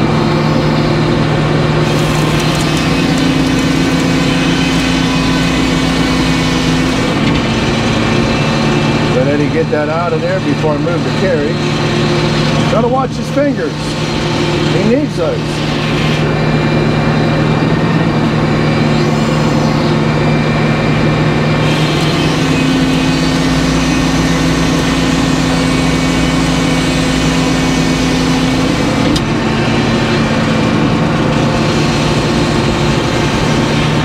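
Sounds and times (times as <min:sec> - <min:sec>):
circular saw cutting log: 0:00.0 - 0:34.0
power unit running: 0:00.0 - 0:34.0.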